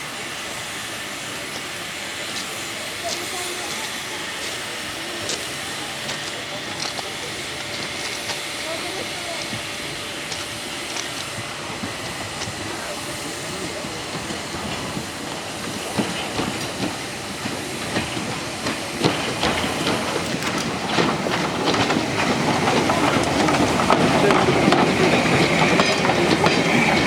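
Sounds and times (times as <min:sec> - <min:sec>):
train wheels clicking over rail joints: 0:00.0 - 0:27.0.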